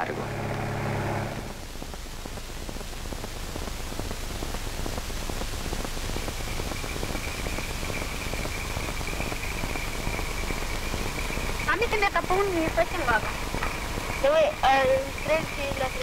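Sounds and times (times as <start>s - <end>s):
film soundtrack hiss and crackle: 0.0s - 16.0s.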